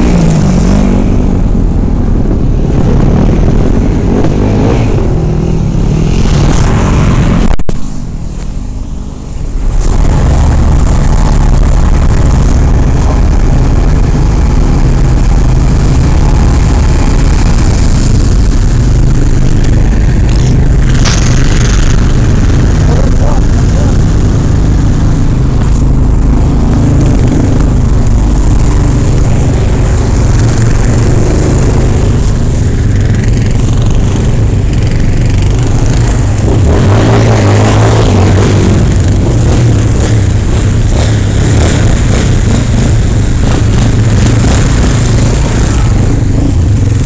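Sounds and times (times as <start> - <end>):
quad bike engines running: 0.0 - 47.0.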